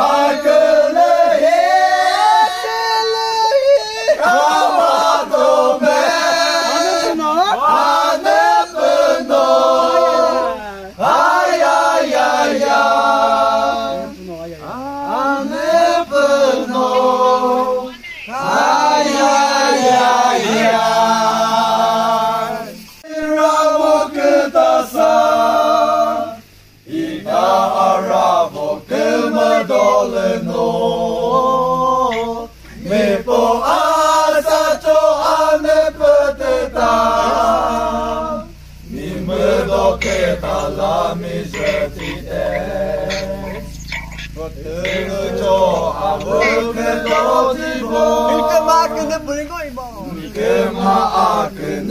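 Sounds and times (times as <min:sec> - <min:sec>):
men singing together: 0:00.0 - 0:51.9.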